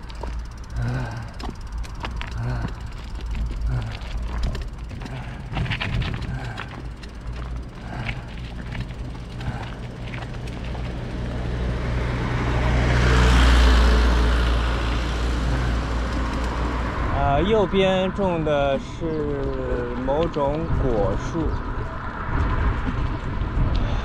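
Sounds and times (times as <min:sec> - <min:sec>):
motor vehicle passing by: 0:00.0 - 0:23.7.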